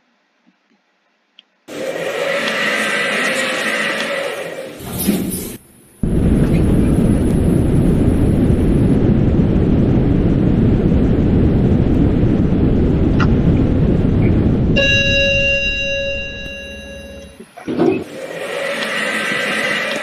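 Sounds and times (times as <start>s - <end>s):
elevator rushing rumble: 1.7s - 20.0s.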